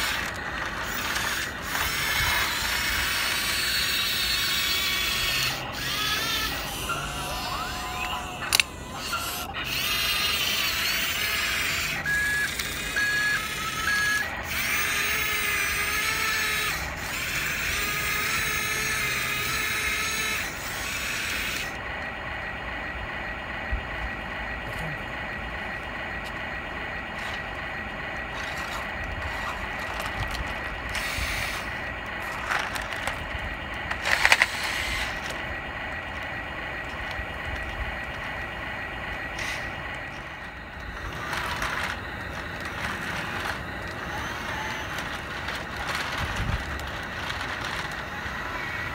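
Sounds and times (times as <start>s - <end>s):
toy motors whining: 0.0s - 48.9s.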